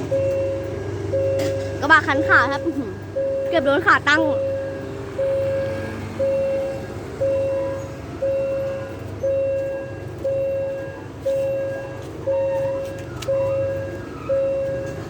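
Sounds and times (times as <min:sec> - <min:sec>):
level-crossing warning bell ringing: 0:00.0 - 0:15.0
low rumble of road traffic: 0:00.0 - 0:15.0.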